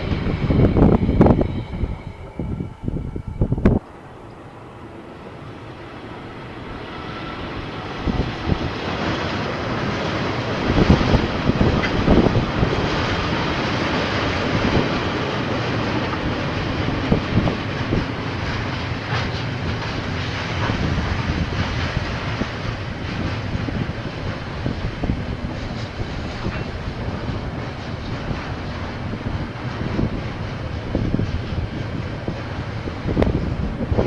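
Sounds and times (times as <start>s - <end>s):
train wagons rumbling: 0.0s - 34.0s.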